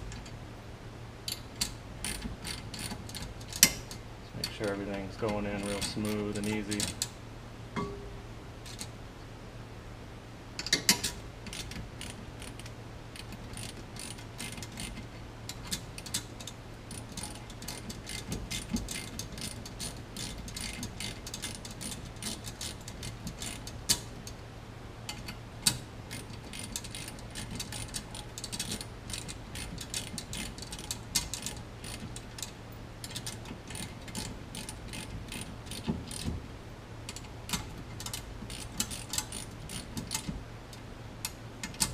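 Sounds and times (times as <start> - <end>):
steady low hum: 0.0 - 41.9
hand ratchet clicking: 1.3 - 4.6, 5.2 - 7.1, 10.6 - 24.4, 25.1 - 36.4, 37.1 - 40.4.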